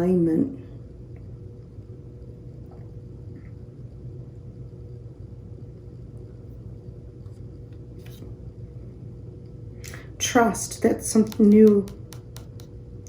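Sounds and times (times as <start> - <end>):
faint hum: 0.0 - 13.0
low background rumble: 0.0 - 13.0.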